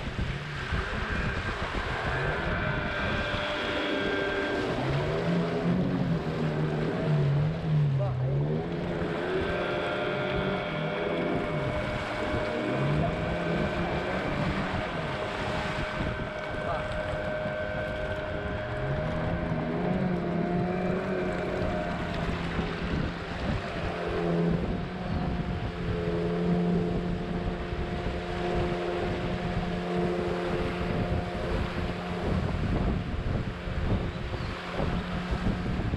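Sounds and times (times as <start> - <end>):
outboard motor running: 0.0 - 35.9
water rushing past hull: 0.0 - 35.9
wind on microphone: 0.0 - 35.9.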